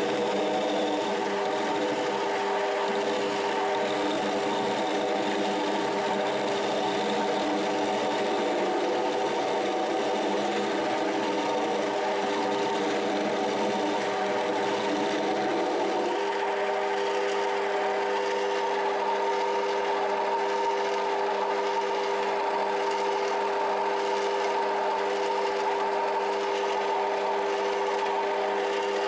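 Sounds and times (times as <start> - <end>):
lathe motor whine: 0.0 - 29.0.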